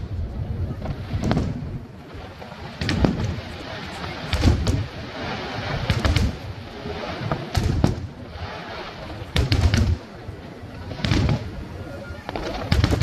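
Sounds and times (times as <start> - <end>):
firework display background noise: 0.0 - 13.0
firework shells bursting: 0.9 - 11.6, 12.2 - 13.0.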